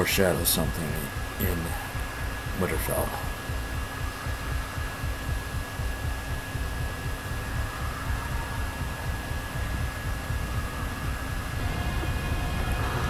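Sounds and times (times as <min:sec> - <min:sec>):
cooling fan whirring: 0:00.0 - 0:13.0
low rumble: 0:00.1 - 0:13.0.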